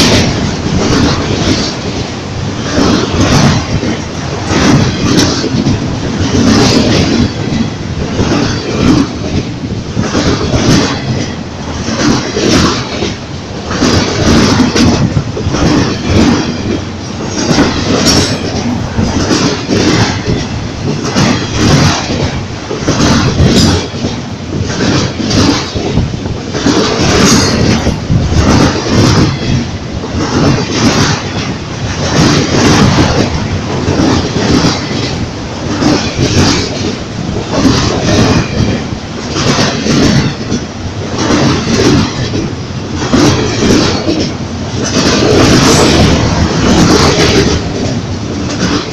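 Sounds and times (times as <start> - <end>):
train wheels clacking on rail joints: 0.0 - 48.9.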